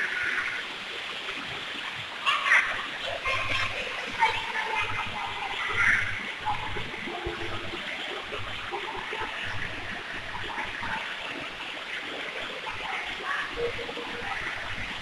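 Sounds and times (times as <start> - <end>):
stream running over stones: 0.0 - 15.0.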